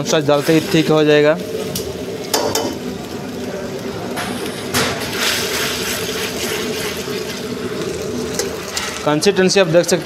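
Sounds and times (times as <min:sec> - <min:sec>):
soup boiling and bubbling: 0:00.0 - 0:10.0.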